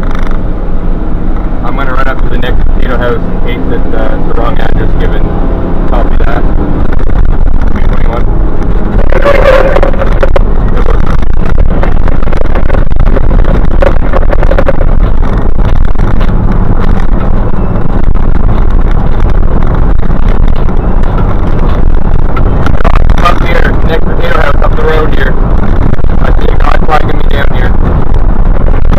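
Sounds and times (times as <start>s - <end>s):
fire engine engine drone: 0.0s - 28.9s
road noise: 0.0s - 28.9s.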